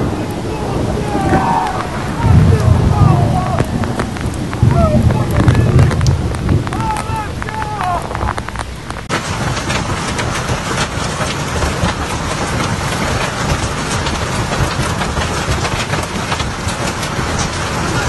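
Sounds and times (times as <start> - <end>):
hailstones clattering: 0.0 - 18.0
low rumble: 0.0 - 18.0
steady rushing noise: 0.0 - 18.0.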